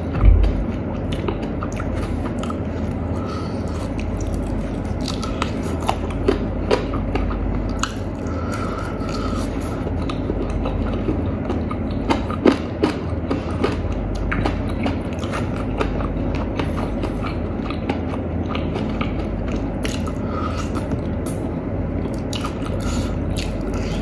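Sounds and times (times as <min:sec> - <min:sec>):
chewing crispy chicken: 0:00.0 - 0:24.0.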